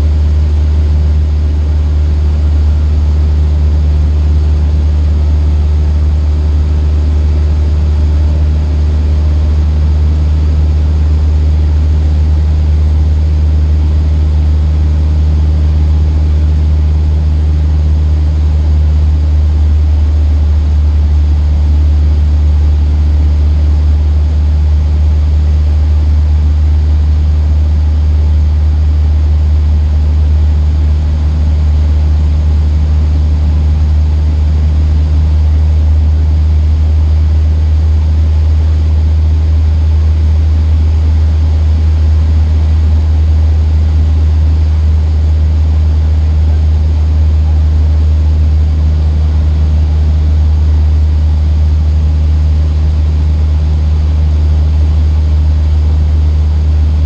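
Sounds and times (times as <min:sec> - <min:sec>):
airplane engine droning in cabin: 0:00.0 - 0:57.0.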